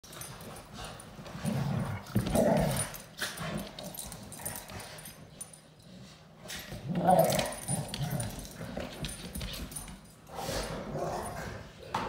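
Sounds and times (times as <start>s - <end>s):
dogs growling in play: 0.1s - 12.0s.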